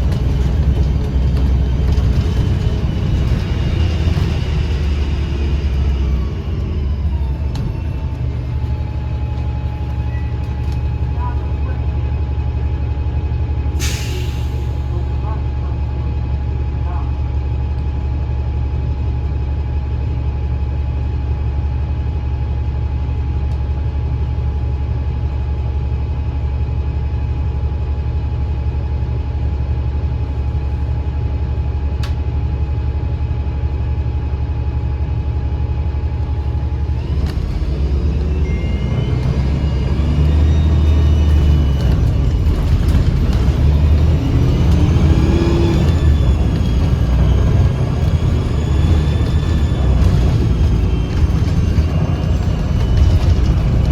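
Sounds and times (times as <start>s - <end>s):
bus whining and whistling: 0.0s - 53.9s
diesel bus engine rumbling: 0.0s - 53.9s.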